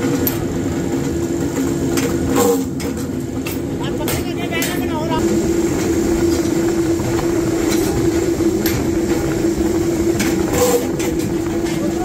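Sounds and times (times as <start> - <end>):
forging press humming: 0.0 - 12.0.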